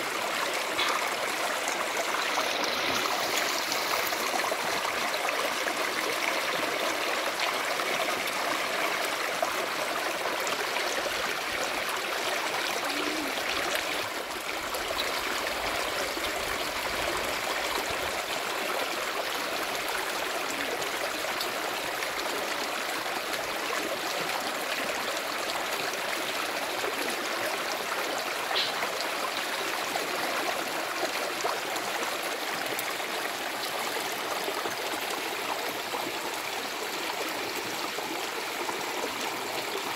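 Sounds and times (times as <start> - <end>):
stream water running over rocks: 0.0 - 39.9.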